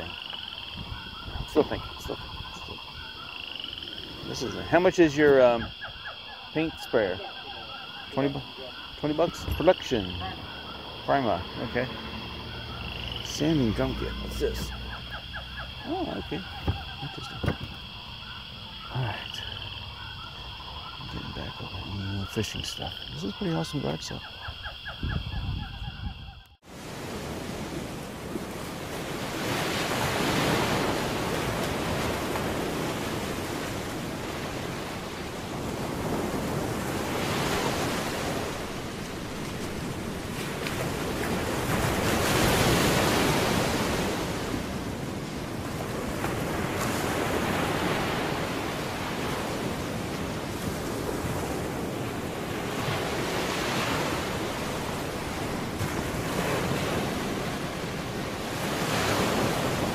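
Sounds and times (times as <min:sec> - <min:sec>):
ocean waves breaking: 0:00.0 - 0:24.4, 0:26.6 - 0:59.9.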